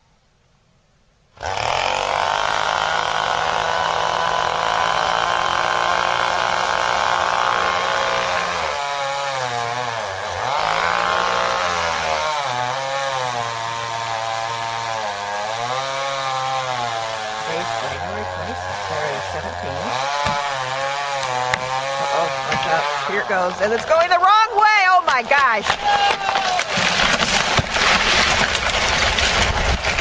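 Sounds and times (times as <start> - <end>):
chainsaw cutting tree trunk: 1.4 - 30.0.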